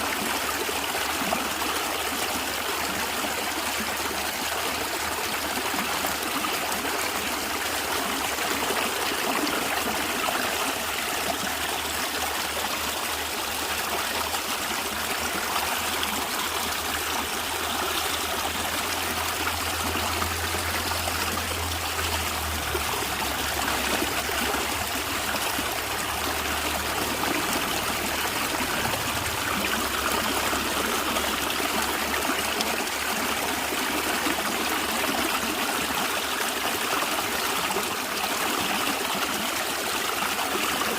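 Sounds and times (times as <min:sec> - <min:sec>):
stream flowing and gurgling: 0:00.0 - 0:40.9.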